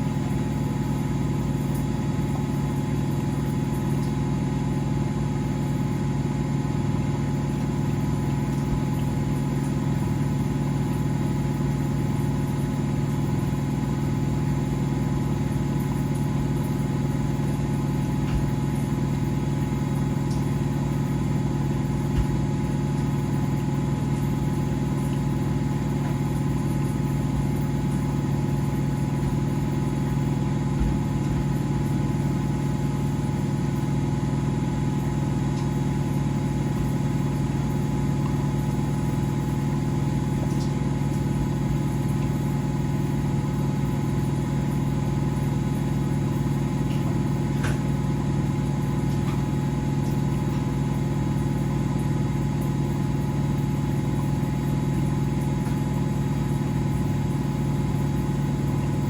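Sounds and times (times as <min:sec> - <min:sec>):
washing machines motor hum: 0:00.0 - 0:59.0.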